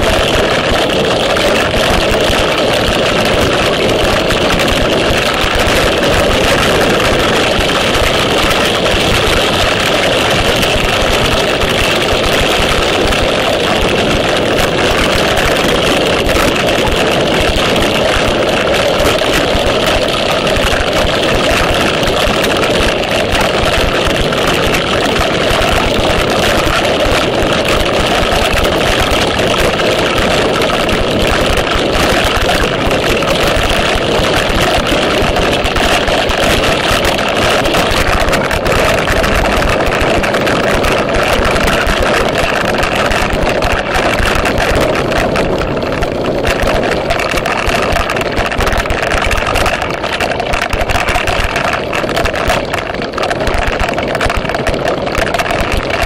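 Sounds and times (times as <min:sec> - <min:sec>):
heavy rain splashing: 0:00.0 - 0:56.0.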